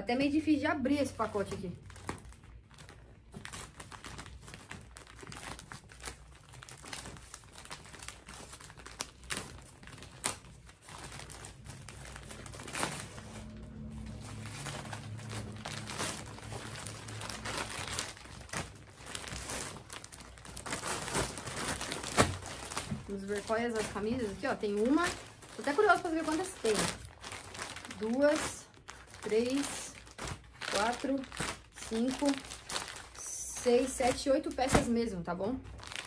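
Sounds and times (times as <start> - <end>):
plastic mailer bag crinkling: 1.4 - 34.9, 35.7 - 36.0.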